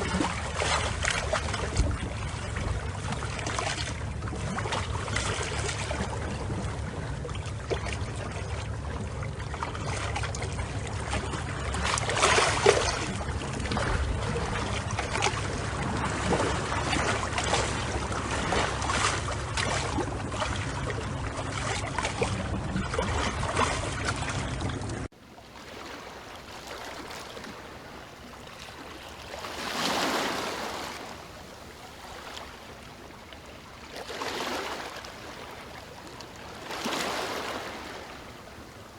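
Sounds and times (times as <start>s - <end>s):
churning water: 0.0s - 38.9s
gentle wave washing: 0.0s - 38.9s.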